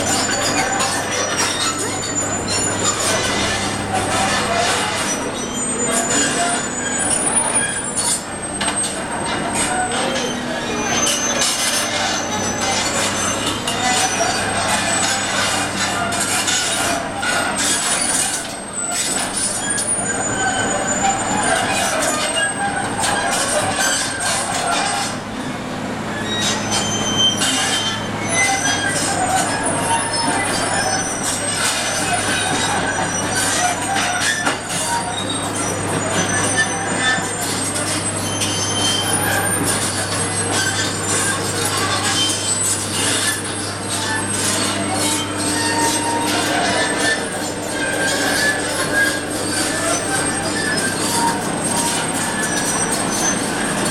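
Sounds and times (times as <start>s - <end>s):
heavy construction machinery din: 0.0s - 53.9s
high metallic screeching: 0.0s - 53.9s
high metallic squeals and scraping: 0.0s - 53.9s.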